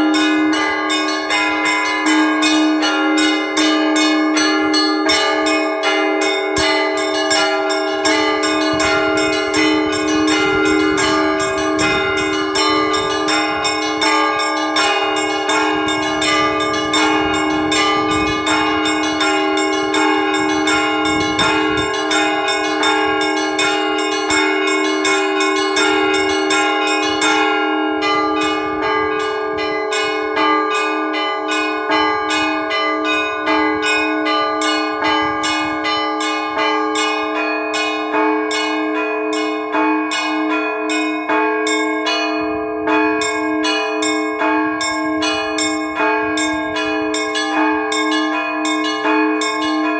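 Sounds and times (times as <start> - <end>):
large bells ringing: 0.0 - 49.9
small church bells struck rapidly: 0.0 - 49.9.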